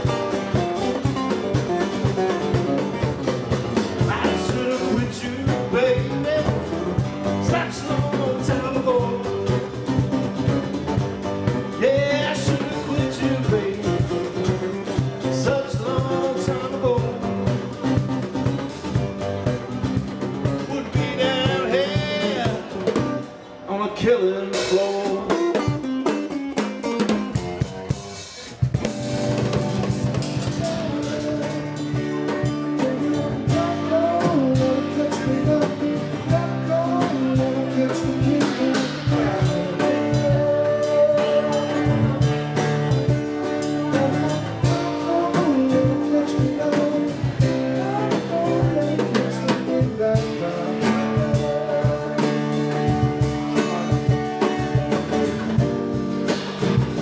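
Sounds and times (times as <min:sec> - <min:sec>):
drum kit: 0:00.0 - 0:23.6, 0:24.5 - 0:57.0
acoustic guitars strumming: 0:00.0 - 0:57.0.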